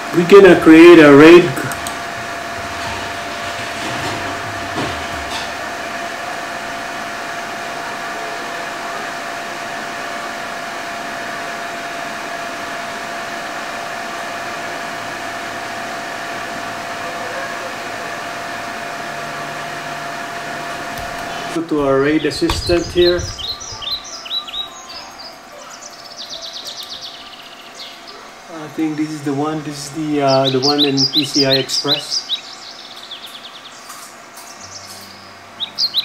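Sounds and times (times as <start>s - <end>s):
computer fans whirring: 0.0s - 36.0s.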